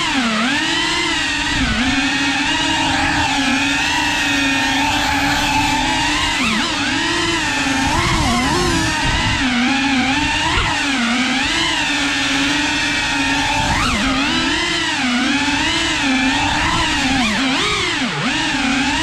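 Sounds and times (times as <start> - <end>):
quadcopter motors buzzing: 0.0 - 19.0.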